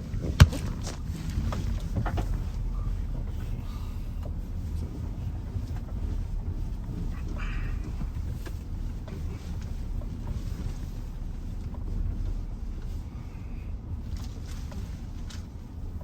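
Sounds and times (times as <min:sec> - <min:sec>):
vehicle rumbling off-road: 0:00.0 - 0:16.0.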